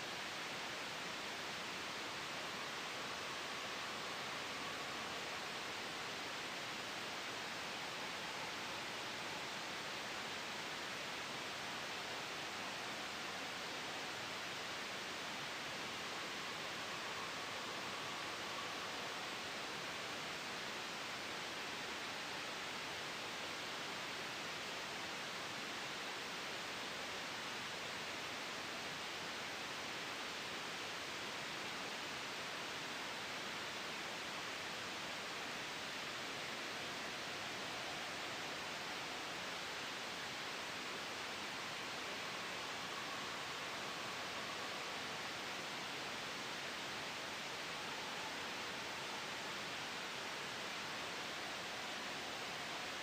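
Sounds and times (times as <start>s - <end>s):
soft white noise hiss: 0.0s - 53.0s.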